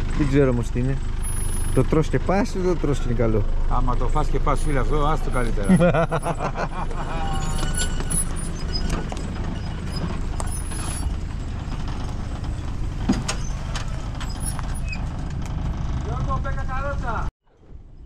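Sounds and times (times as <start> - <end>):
low engine and road rumble: 0.0 - 18.0.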